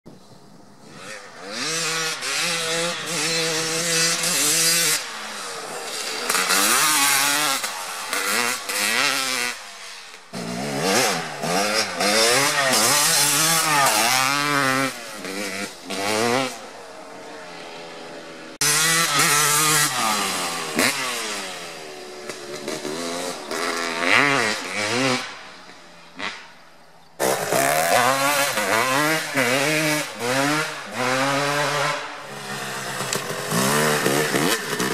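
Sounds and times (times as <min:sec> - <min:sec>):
dirt bike engines accelerating: 0:00.6 - 0:34.9.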